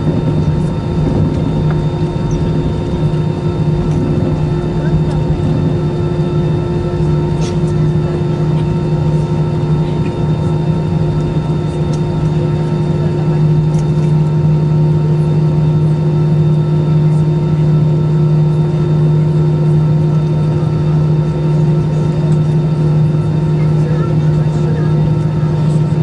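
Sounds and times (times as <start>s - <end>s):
jet engines idling drone: 0.0s - 26.0s.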